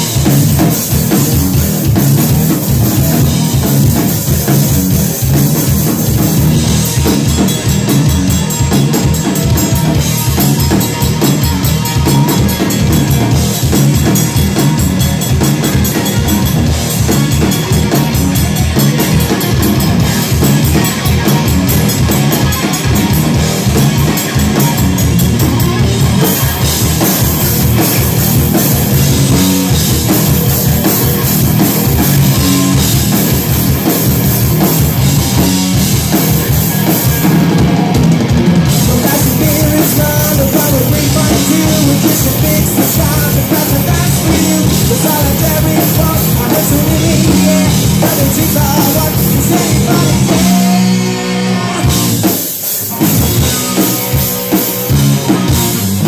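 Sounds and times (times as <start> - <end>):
bass guitar: 0.0 - 56.0
drum kit beat: 0.0 - 56.0
electric guitar: 0.0 - 56.0.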